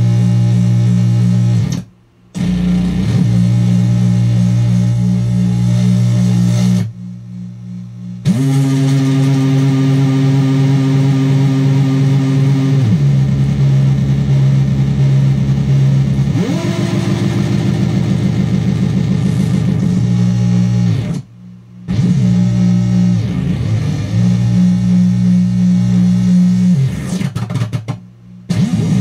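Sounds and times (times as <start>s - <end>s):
buzzy synthesizer drone: 0.0s - 29.0s.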